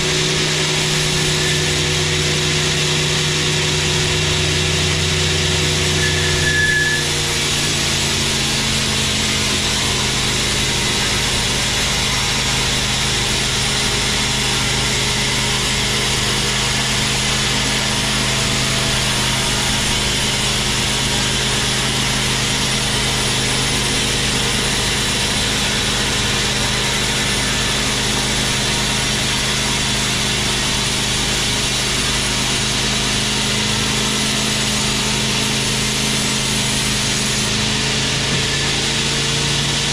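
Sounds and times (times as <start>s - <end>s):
band saw machine hum: 0.0s - 39.9s.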